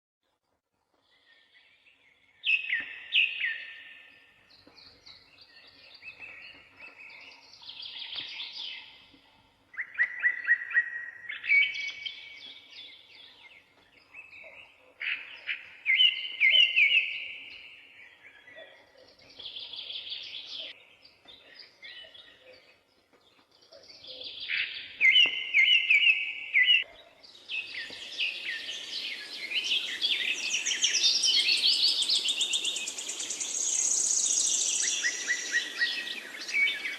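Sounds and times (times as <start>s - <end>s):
songbirds singing: 0.9s - 36.9s.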